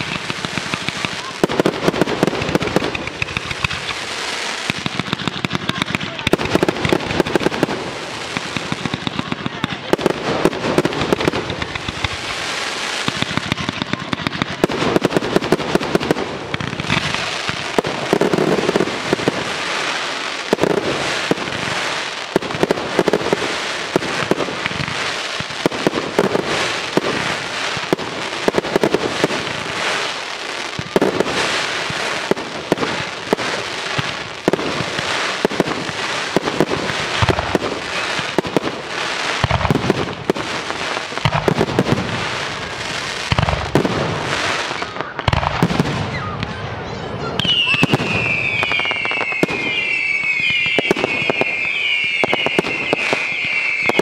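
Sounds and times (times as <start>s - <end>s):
deep firework booms: 0.0s - 54.0s
fireworks bursting and crackling: 0.0s - 54.0s.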